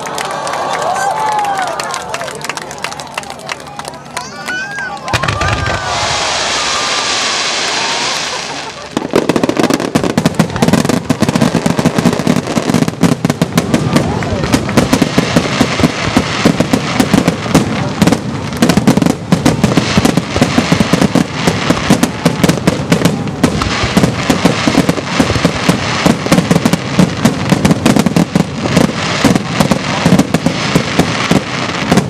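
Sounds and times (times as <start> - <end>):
fireworks bursting: 4.2 - 32.0.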